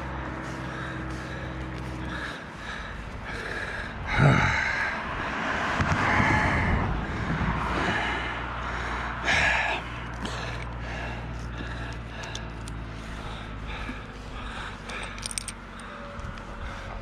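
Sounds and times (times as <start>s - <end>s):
heavy breathing: 0.0s - 17.0s
vehicle engine humming: 0.0s - 17.0s.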